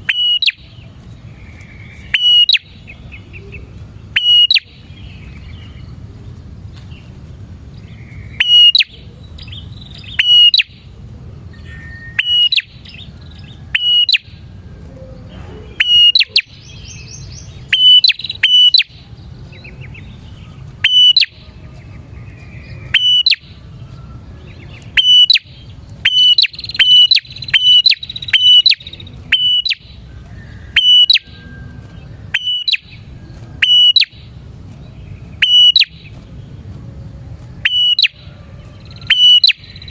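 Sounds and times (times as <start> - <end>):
bird chirping sharply: 0.0 - 0.8, 1.5 - 5.8, 7.8 - 10.8, 11.5 - 14.4, 15.6 - 23.6, 24.5 - 31.4, 32.0 - 34.4, 35.0 - 36.3, 37.6 - 39.9.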